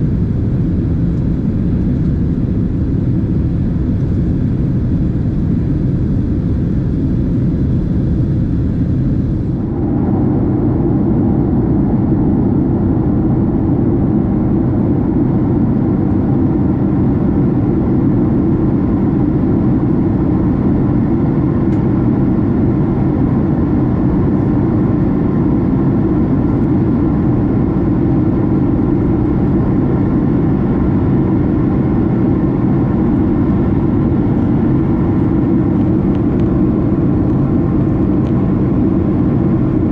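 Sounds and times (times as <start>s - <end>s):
jet engine cabin noise: 0.0s - 39.9s
low hum: 0.0s - 39.9s.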